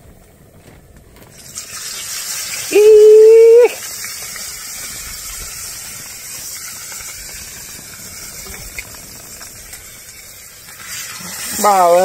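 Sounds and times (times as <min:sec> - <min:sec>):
fish sizzling in hot oil: 0:01.2 - 0:12.0.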